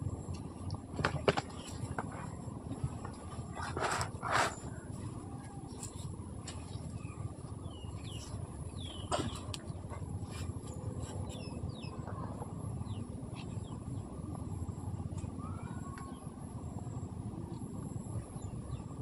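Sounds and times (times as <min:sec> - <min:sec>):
low outdoor rumble: 0:00.0 - 0:19.0
small birds chirping: 0:00.1 - 0:19.0.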